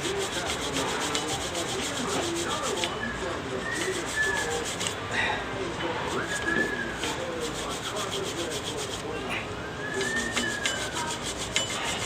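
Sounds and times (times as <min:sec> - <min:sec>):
brush scrubbing brake part: 0:00.0 - 0:05.0, 0:06.0 - 0:12.0.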